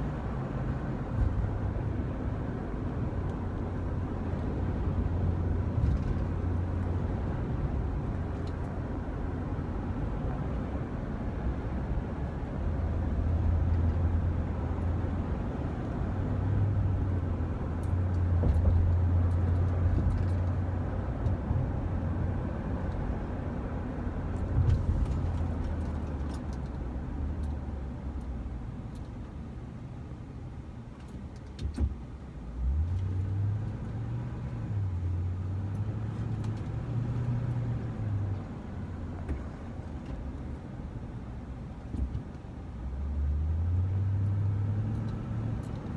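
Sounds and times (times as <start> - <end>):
car engine hum: 0.0 - 45.9
road noise: 0.0 - 45.9.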